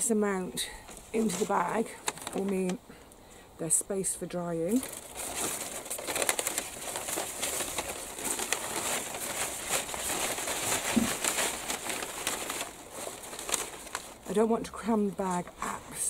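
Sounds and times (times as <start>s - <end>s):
dry lavender stalks rustling: 0.0s - 2.8s, 4.0s - 16.0s
paper bag crinkling: 0.7s - 2.8s, 4.6s - 16.0s.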